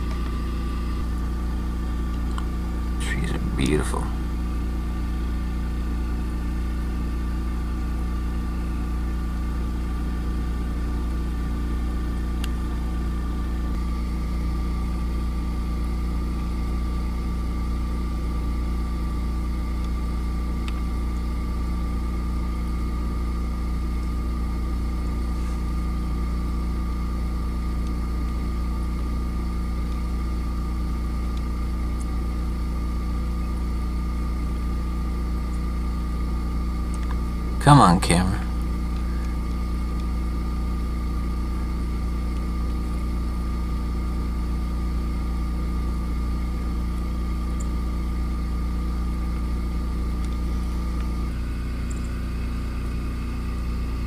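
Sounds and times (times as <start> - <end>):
motor humming with whine: 0.0 - 37.6, 38.4 - 54.0.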